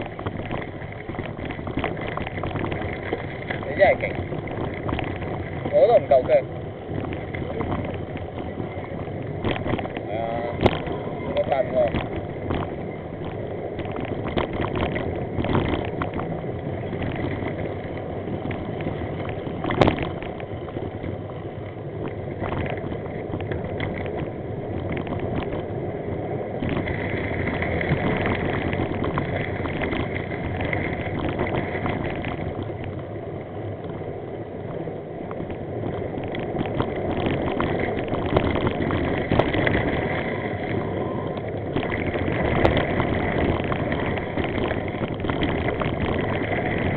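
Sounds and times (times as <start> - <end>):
bike rattles and knocks: 0.0 - 46.9
wind on microphone: 0.0 - 46.9.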